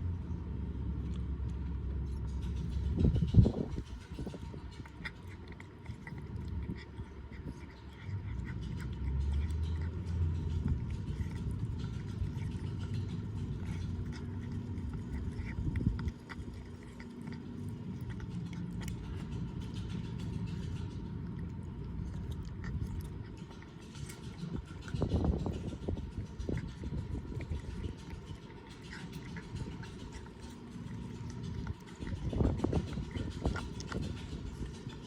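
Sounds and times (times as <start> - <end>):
steady low rumble: 0.0 - 35.0
cat chewing on a bone: 0.6 - 35.0
small crunching clicks: 1.0 - 35.0.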